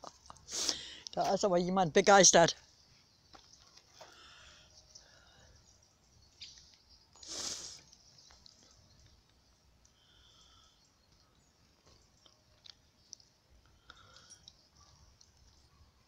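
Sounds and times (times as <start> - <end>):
faint bird chirps: 2.6 - 16.0.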